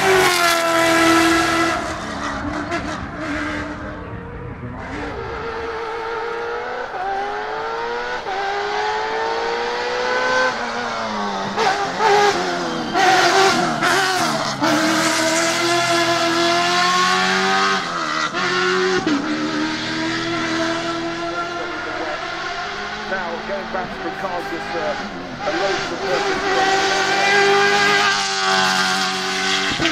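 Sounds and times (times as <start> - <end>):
truck engine revving: 0.0 - 29.9.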